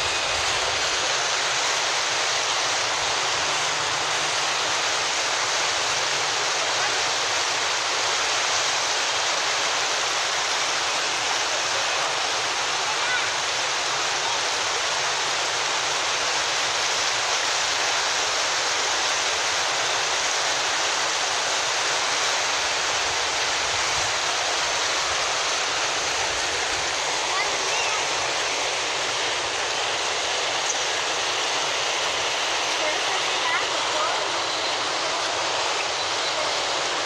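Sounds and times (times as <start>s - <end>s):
floodwater rushing and churning: 0.0s - 37.0s.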